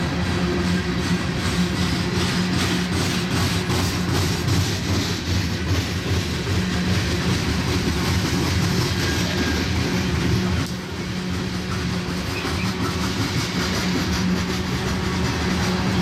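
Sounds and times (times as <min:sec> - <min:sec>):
freight cars rumbling on rails: 0:00.0 - 0:16.0.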